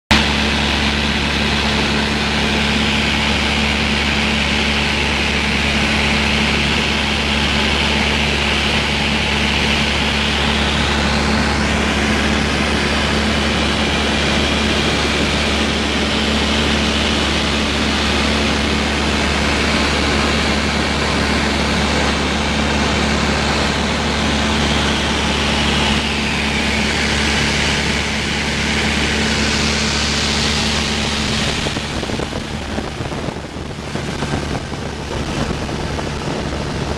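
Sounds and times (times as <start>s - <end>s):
aircraft engine droning: 0.1s - 36.9s.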